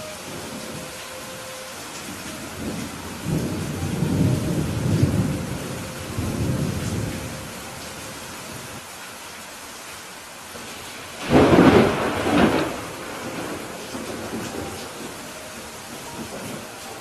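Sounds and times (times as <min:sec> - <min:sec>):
thunder rumble: 0:00.0 - 0:08.8, 0:11.2 - 0:17.0
steady rain hiss: 0:00.0 - 0:17.0.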